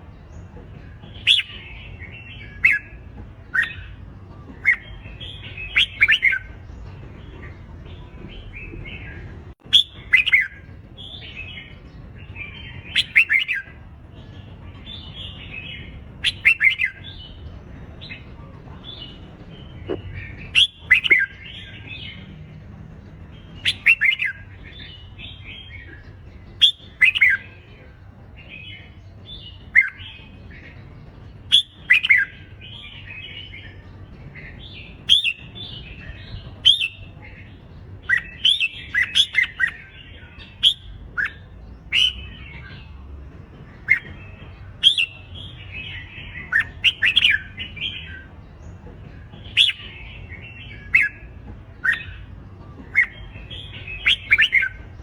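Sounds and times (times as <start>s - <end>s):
soft bird chatter: 0.0s - 55.0s.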